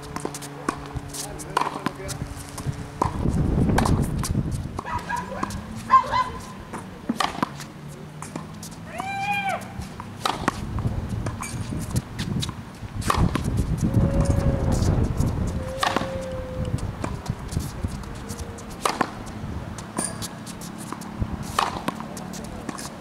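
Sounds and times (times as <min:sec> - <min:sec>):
tennis racket hitting ball: 0:00.0 - 0:23.0.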